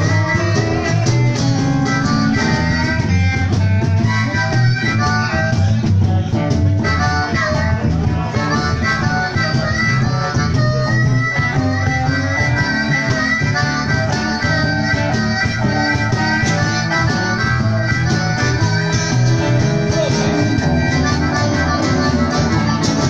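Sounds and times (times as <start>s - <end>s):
bass guitar: 0.0s - 23.0s
blues harmonica wailing: 0.0s - 23.0s
cajon beat: 0.0s - 23.0s
electric guitar: 0.0s - 23.0s.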